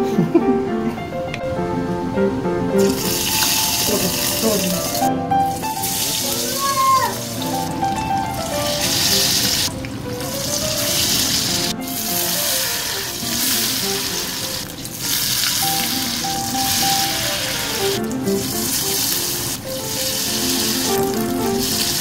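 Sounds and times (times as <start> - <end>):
background music: 0.0 - 22.0
fish sizzling in hot oil: 2.8 - 22.0.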